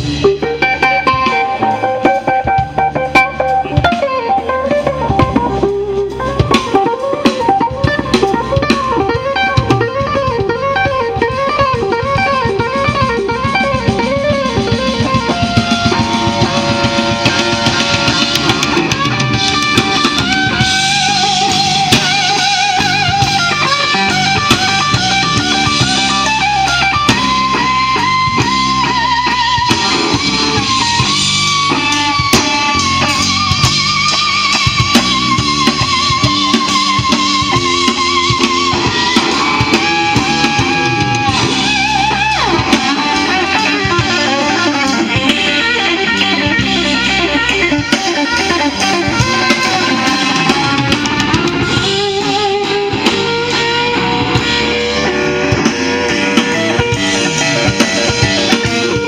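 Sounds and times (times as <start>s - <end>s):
bass: 0.0s - 59.0s
drums: 0.0s - 59.0s
electric guitar lead: 0.0s - 59.0s.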